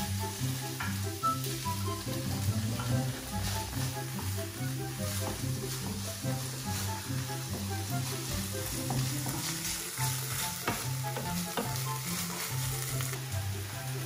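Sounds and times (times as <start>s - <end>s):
wooden spatula scraping pan: 0.0s - 13.2s
background music: 0.0s - 14.0s
food sizzling in a frying pan: 0.0s - 14.0s.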